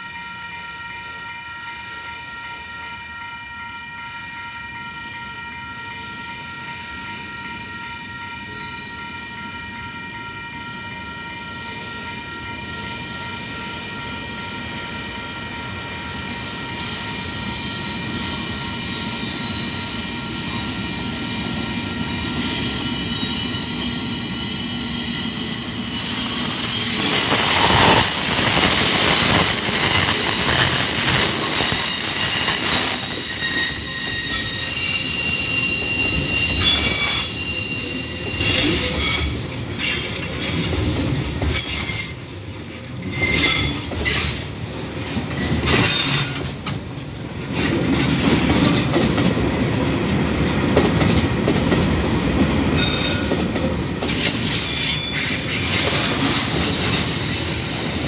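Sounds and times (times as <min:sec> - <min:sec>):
diesel locomotive engine rumble: 0:00.0 - 0:58.0
train wheel squeal: 0:00.0 - 0:58.0.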